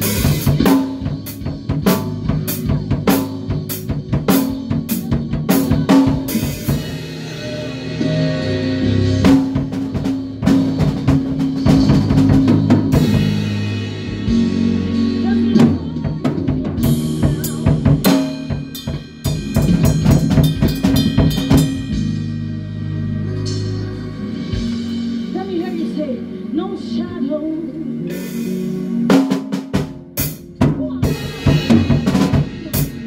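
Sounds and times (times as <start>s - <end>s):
band playing instrumental: 0.0s - 33.0s
bass line: 0.0s - 33.0s.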